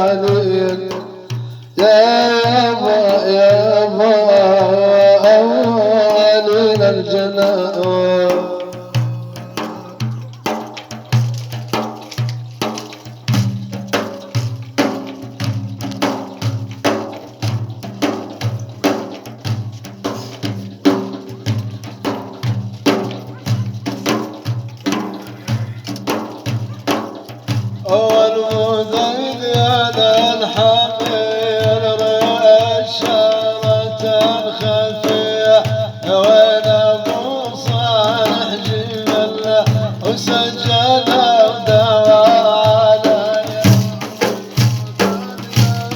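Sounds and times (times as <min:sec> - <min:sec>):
steady drum rhythm: 0:00.0 - 0:45.9.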